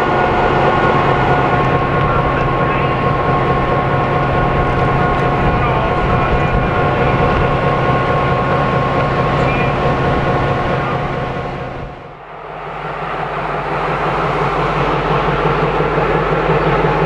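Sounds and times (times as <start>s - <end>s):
diesel locomotive idling: 0.0s - 17.0s
steady whine: 0.0s - 17.0s.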